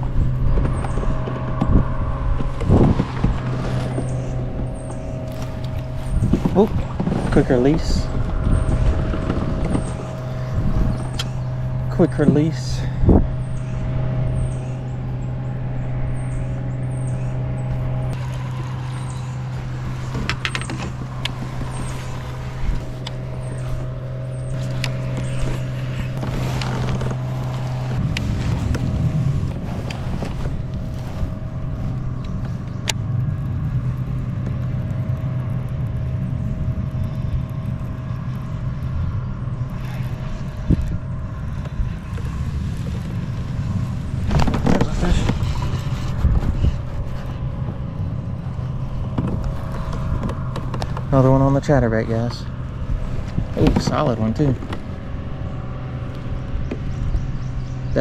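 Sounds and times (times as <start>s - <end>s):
small motor humming: 0.0s - 58.0s
uneven low rumble: 0.0s - 58.0s.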